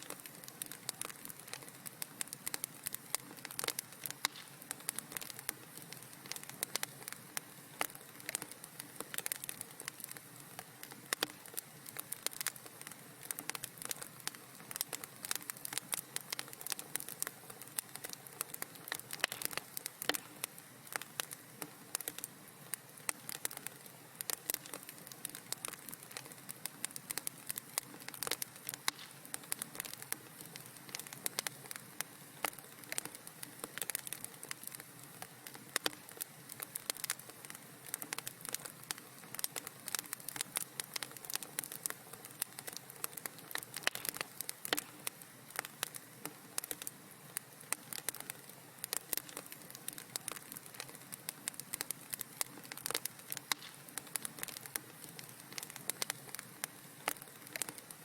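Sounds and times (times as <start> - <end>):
fire popping and snapping: 0.0 - 58.0
soft steady hiss: 0.0 - 58.0.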